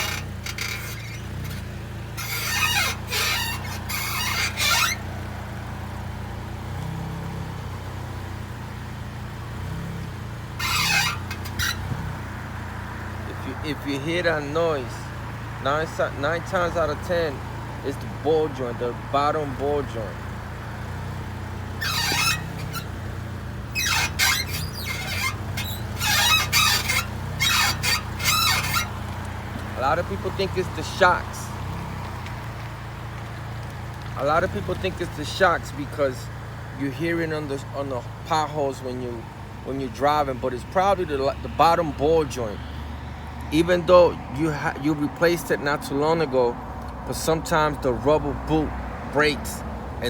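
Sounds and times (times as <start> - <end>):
car suspension squeaking: 0.0 - 50.0.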